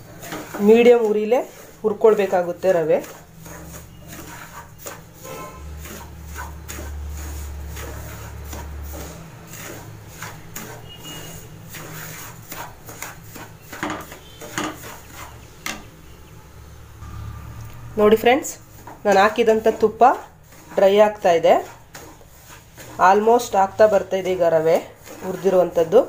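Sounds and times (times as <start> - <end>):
spatula scraping frying pan: 0.0 - 16.2, 18.0 - 26.0.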